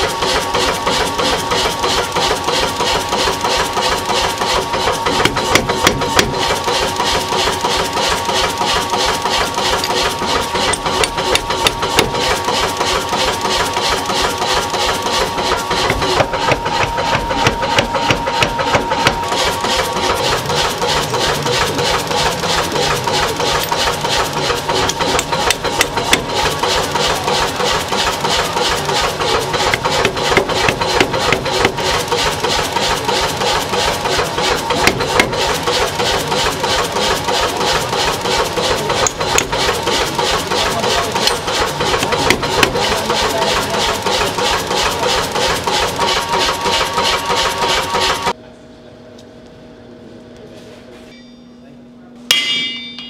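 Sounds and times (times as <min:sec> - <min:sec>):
machine drive running: 0:00.0 - 0:48.4
power hammer striking iron: 0:00.0 - 0:48.4, 0:52.3 - 0:53.0.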